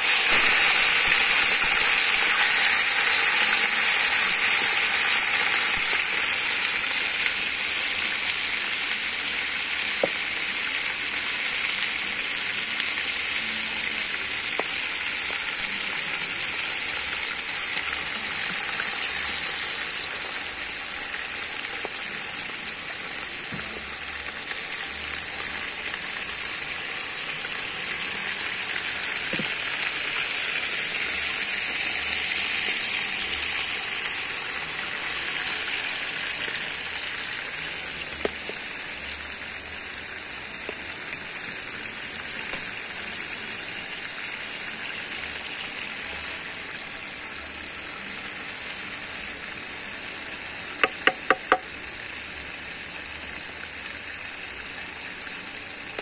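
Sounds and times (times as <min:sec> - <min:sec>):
stew sizzling over fire: 0:00.0 - 0:56.0.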